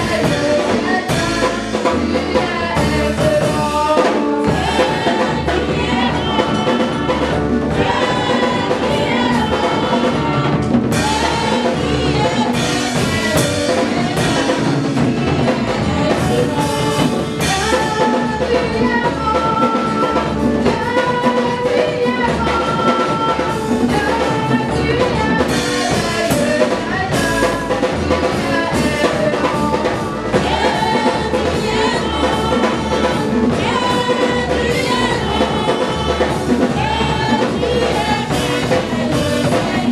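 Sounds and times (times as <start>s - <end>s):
drum kit beat: 0.0s - 39.9s
women singing together: 0.0s - 39.9s.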